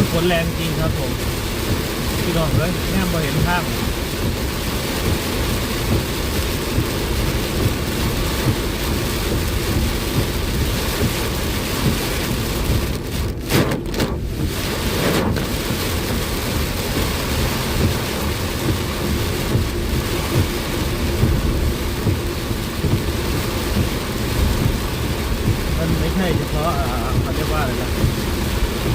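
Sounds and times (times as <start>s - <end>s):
heavy rain on a car: 0.0s - 28.9s
low rumble: 0.0s - 28.9s.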